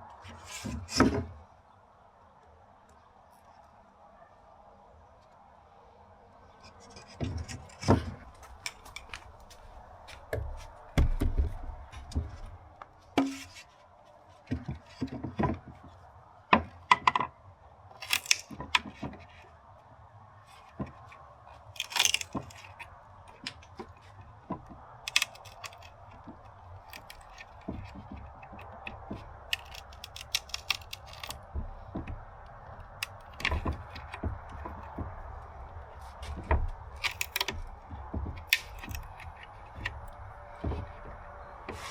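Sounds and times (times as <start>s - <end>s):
tools clicking and scraping on wood: 6.4s - 41.9s.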